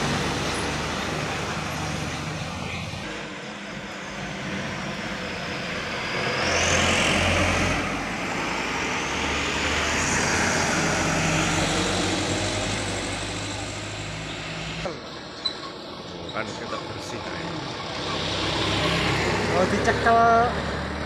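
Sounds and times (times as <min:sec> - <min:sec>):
tanker truck driving past: 0:00.0 - 0:21.0.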